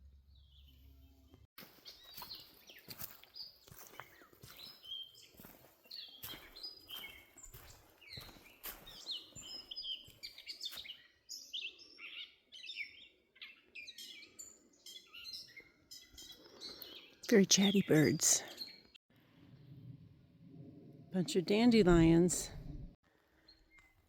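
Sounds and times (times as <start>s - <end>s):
songbirds chirping and trilling: 0.2s - 24.0s.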